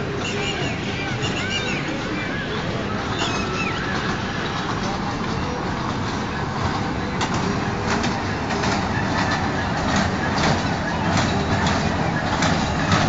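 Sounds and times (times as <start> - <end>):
ride-on train rumbling: 0.0 - 13.0
wheels clicking and clacking: 0.0 - 13.0.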